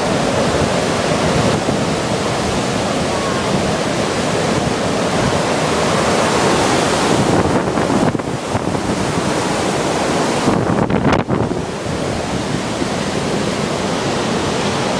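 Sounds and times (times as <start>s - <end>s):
hurricane wind buffeting microphone: 0.0s - 14.9s.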